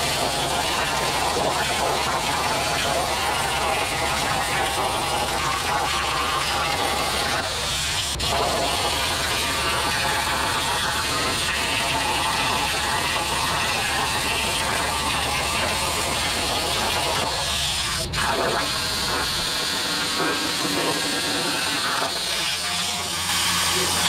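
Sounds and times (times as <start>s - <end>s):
plasma cutter arc hissing: 0.0s - 24.0s.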